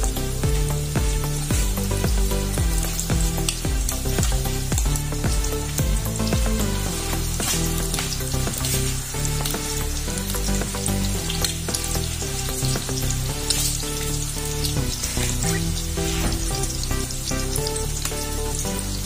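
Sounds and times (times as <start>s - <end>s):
background music: 0.0s - 19.0s
shrimp frying in hot oil: 0.0s - 19.0s.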